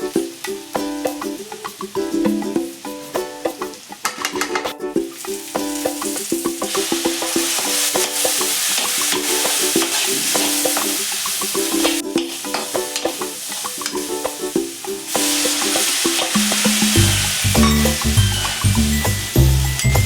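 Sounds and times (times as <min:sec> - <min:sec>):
okra sizzling in a pan: 0:00.0 - 0:20.0
plucked background music: 0:00.0 - 0:20.0.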